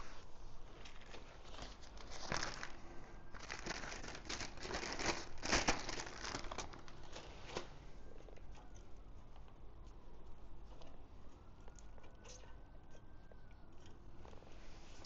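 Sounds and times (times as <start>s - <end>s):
crinkling and rustling: 0.0s - 12.4s.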